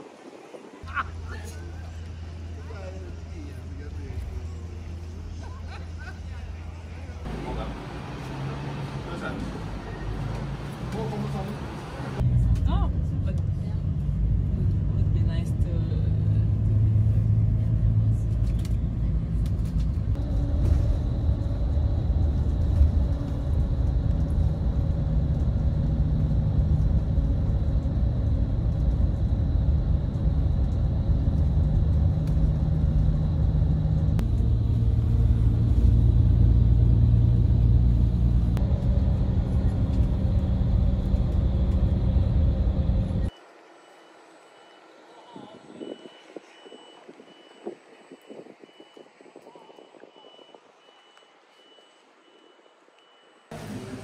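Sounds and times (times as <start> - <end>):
bus engine drone and road rumble: 0.0 - 54.0.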